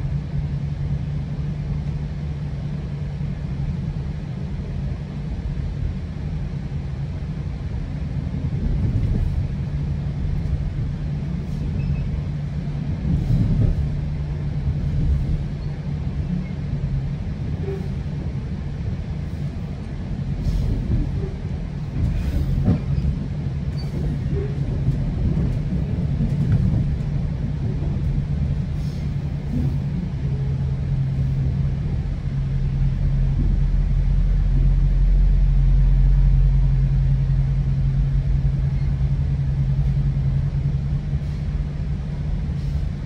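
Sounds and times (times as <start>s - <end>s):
train rumbling on track: 0.0s - 43.0s
low hum: 8.5s - 43.0s.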